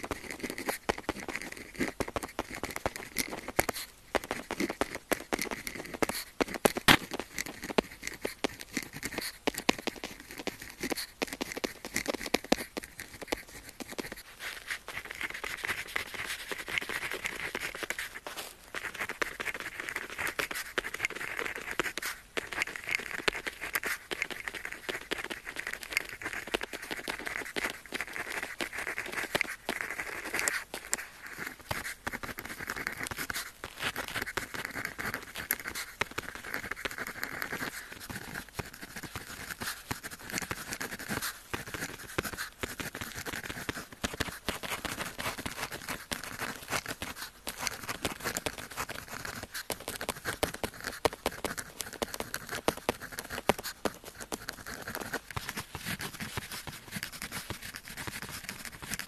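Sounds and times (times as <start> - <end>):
pen scratching on paper: 0.0 - 59.0.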